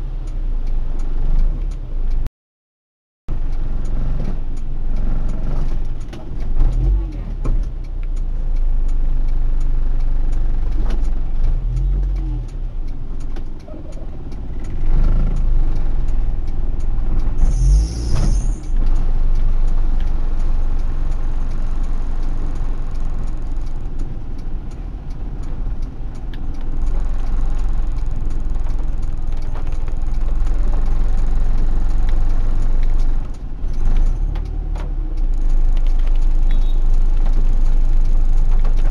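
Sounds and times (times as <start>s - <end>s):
car engine rumble: 0.0s - 2.3s, 3.3s - 38.9s.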